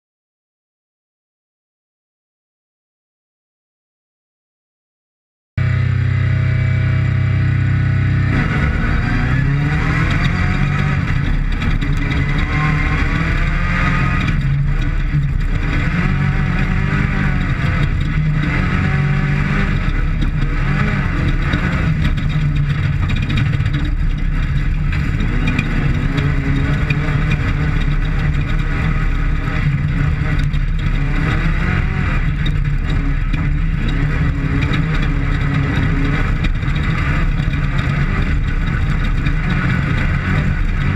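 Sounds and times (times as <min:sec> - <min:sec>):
race vehicle engine revving: 0:05.6 - 0:40.9
rough road noise: 0:05.6 - 0:40.9.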